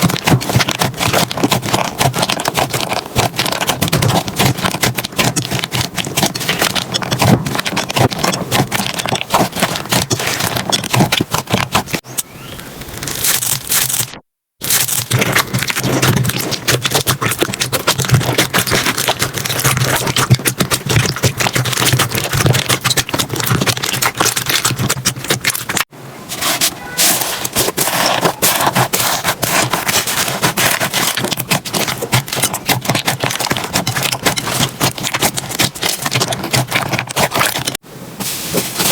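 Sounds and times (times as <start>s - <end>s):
slime crackling and popping: 0.0s - 12.0s, 12.9s - 25.9s, 27.4s - 37.8s.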